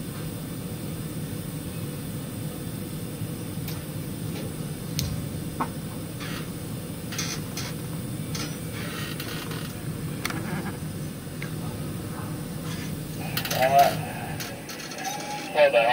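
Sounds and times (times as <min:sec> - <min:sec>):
crane machinery humming: 0:00.6 - 0:15.9.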